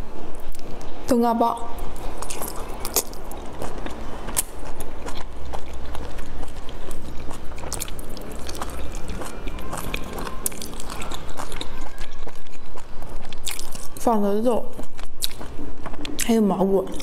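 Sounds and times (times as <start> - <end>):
person chewing dumplings: 1.8 - 17.0.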